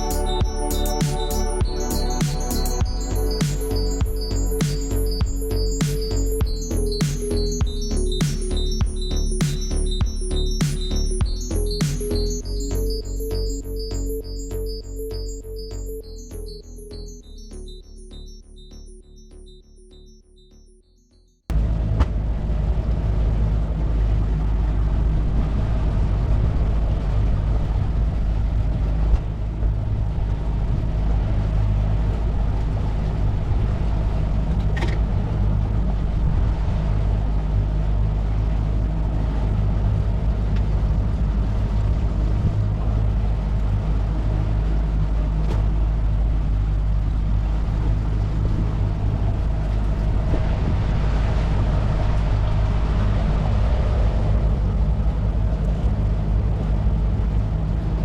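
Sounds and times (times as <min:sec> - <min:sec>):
boat outboard motor droning: 0:00.0 - 0:16.6, 0:21.5 - 0:58.0.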